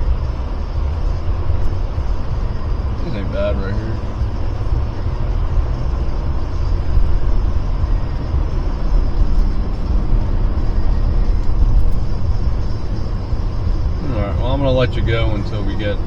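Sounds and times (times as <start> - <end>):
car driving on road: 0.0 - 16.0.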